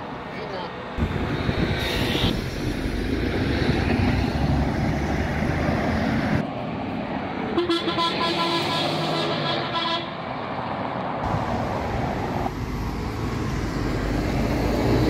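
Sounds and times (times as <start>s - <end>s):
bus passing with low rumble: 0.0s - 15.0s.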